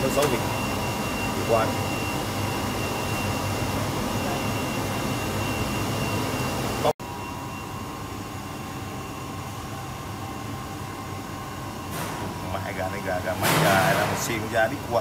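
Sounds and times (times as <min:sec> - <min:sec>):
kitchen ventilation hum: 0:00.0 - 0:15.0.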